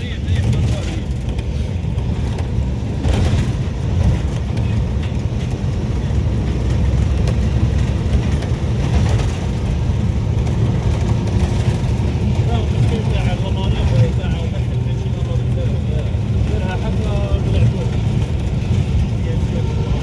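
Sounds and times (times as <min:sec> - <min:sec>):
locomotive engine drone: 0:00.0 - 0:20.0.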